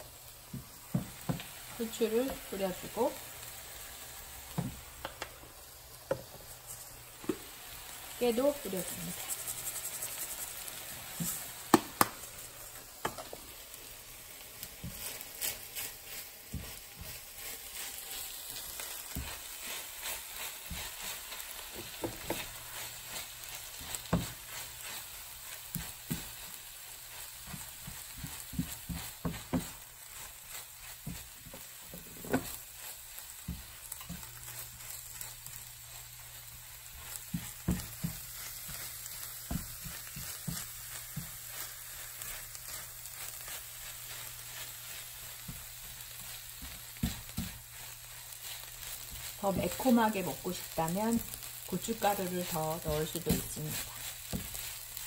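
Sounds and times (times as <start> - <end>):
food sizzling in a frying pan: 0.0 - 55.0
spatula stirring and scraping: 0.4 - 55.0.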